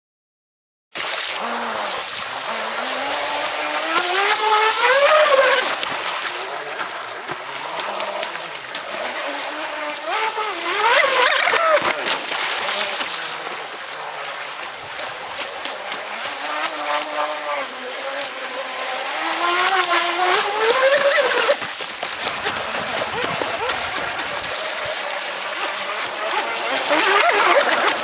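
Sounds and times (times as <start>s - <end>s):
electric boat motor whining: 1.3s - 28.0s.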